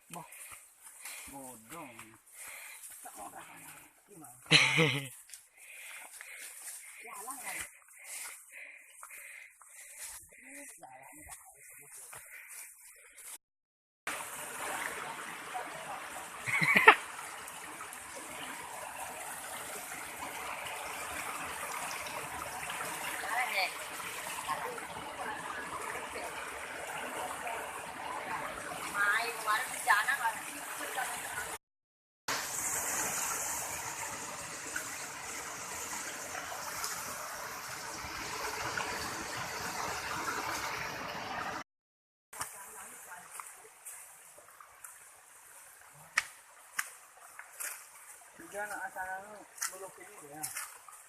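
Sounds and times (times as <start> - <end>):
stream water flowing: 0.0 - 13.4, 14.1 - 31.6, 32.3 - 41.6, 42.4 - 51.0.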